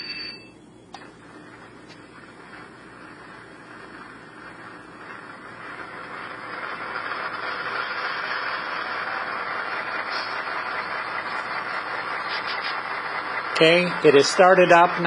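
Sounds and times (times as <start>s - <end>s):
diesel locomotive engine starting and idling: 0.9s - 15.0s.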